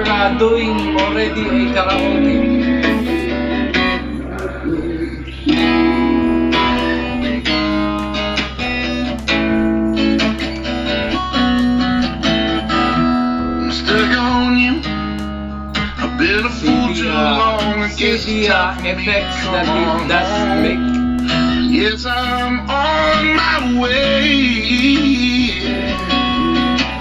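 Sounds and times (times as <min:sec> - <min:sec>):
guitar-led music through small speaker: 0:00.0 - 0:27.0.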